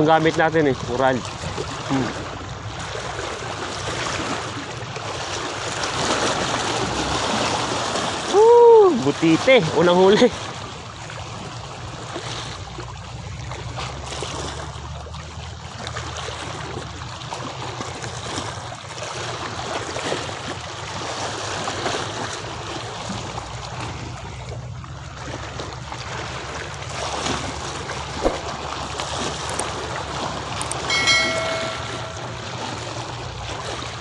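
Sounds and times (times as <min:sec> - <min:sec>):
sea water lapping against pier: 0:00.0 - 0:34.0.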